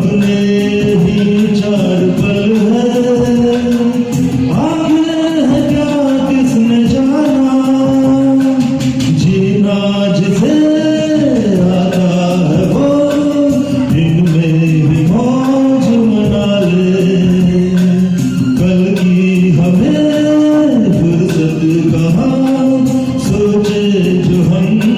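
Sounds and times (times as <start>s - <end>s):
steady music accompaniment: 0.0s - 24.9s.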